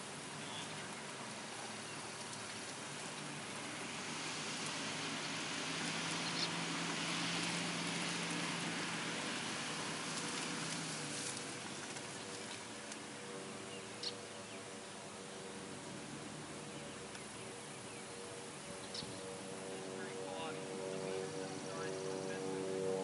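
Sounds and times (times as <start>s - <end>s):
truck engine hum: 0.0s - 23.0s.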